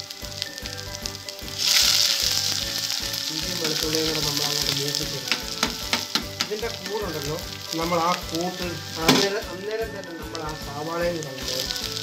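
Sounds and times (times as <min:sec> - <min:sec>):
ginger and garlic sizzling: 0:00.0 - 0:12.0.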